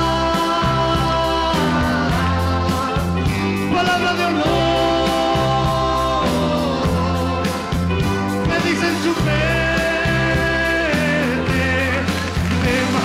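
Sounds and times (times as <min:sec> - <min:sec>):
pop-rock band music: 0:00.0 - 0:13.0.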